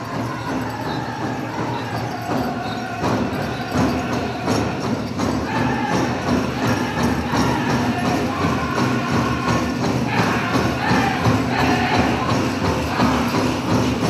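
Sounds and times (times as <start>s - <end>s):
big drum beat: 0.0s - 14.0s
drum group singing: 0.0s - 14.0s
jingle dress cones jingling: 0.0s - 14.0s.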